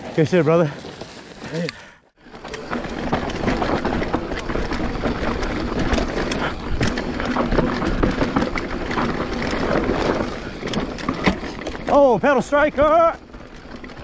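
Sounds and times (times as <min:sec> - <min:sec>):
bike knocking and rattling: 0:00.0 - 0:14.0
bike tyres rolling over rocks: 0:00.0 - 0:14.0.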